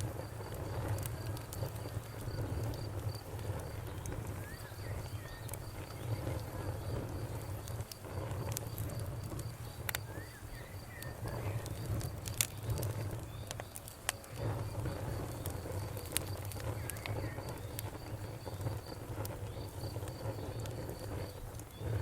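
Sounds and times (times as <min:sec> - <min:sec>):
campfire crackling and popping: 0:00.0 - 0:22.0
insect chirping: 0:00.0 - 0:22.0.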